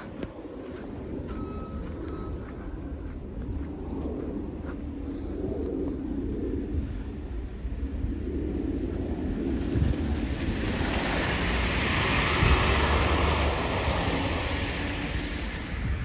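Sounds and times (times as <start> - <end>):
wind buffeting microphone: 0.0 - 16.0
wind gust hiss: 0.0 - 16.0.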